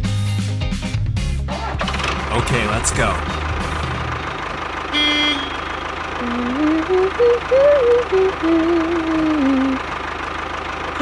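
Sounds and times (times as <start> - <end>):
engine idling with low chugging: 1.9 - 11.0.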